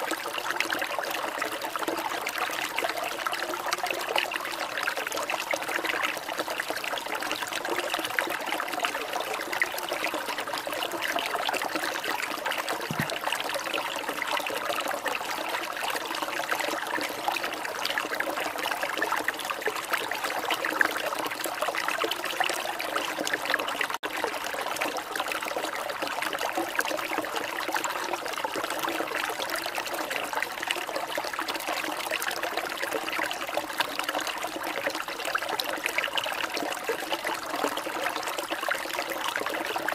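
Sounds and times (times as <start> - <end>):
trickling babbling water: 0.0 - 39.9.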